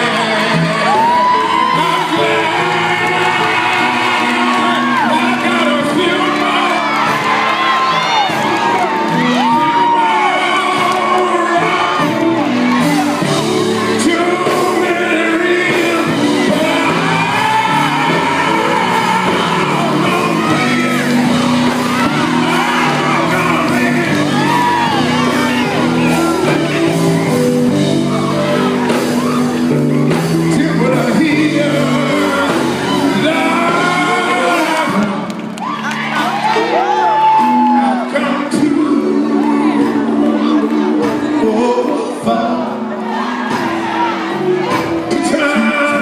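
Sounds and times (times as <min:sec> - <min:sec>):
male quartet singing gospel: 0:00.0 - 0:35.5, 0:36.3 - 0:46.0
bass line: 0:00.0 - 0:46.0.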